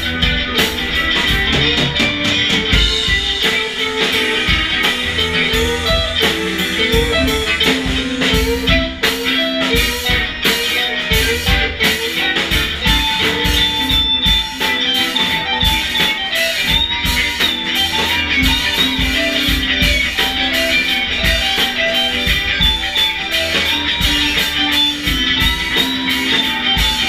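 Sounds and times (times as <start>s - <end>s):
drum kit beat: 0.0s - 27.0s
electric guitars playing: 0.0s - 27.0s.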